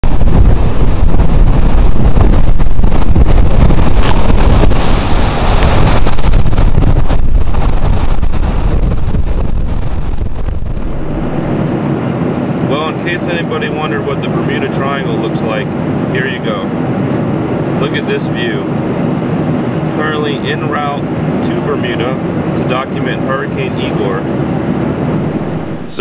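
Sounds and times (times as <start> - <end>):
heavy surf rushing on beach: 0.0 - 26.0
hurricane wind on microphone: 0.0 - 26.0.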